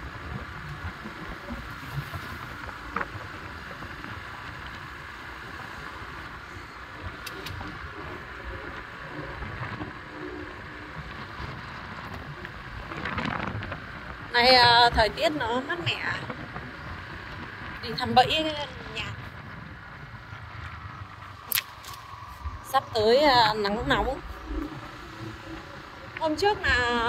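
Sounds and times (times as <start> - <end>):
steady low rumble: 0.0 - 27.0
wind noise on microphone: 0.0 - 27.0.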